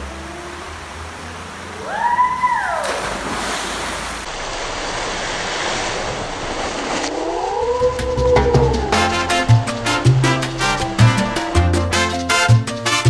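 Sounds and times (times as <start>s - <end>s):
water rushing and splashing: 0.0s - 13.0s.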